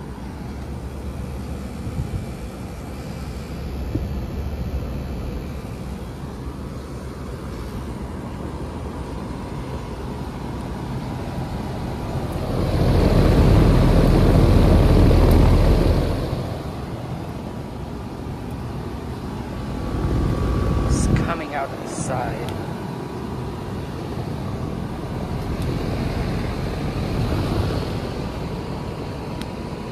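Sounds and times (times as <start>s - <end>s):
air-conditioning units humming: 0.0s - 29.9s
rush of air from fan: 0.0s - 29.9s.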